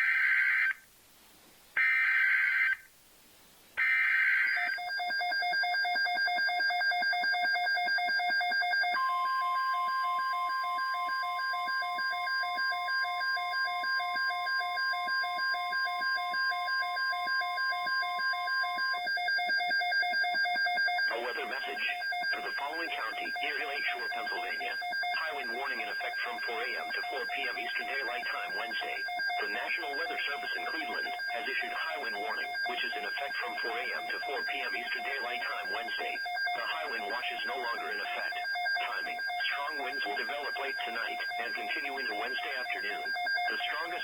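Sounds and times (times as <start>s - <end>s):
rapid pulsing alarm beeps: 3.8s - 44.0s
steady warning alarm tone: 3.8s - 44.0s.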